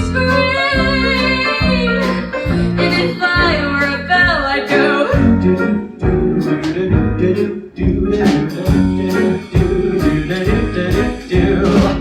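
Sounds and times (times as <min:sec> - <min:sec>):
drum and cymbal hits: 0:00.0 - 0:12.0
jazz combo playing: 0:00.0 - 0:12.0.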